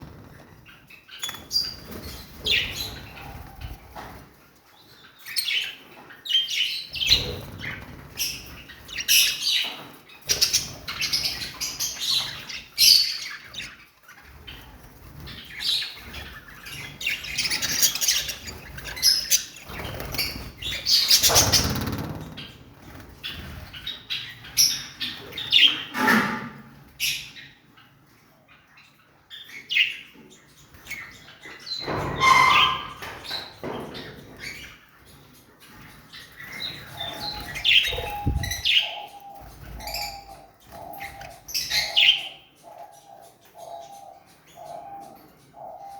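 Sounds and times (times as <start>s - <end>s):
lovebirds chirping: 0.0s - 4.2s, 4.8s - 25.9s, 28.5s - 45.9s.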